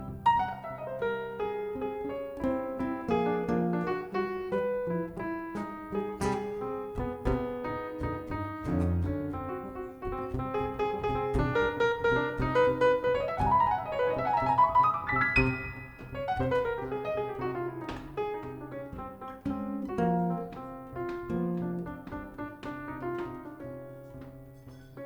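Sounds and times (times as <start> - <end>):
jazz piano playing: 0.0 - 25.0.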